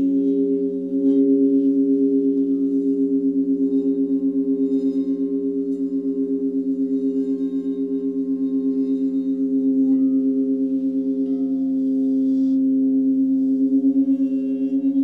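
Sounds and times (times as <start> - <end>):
crystal singing bowls ringing: 0.0 - 15.0.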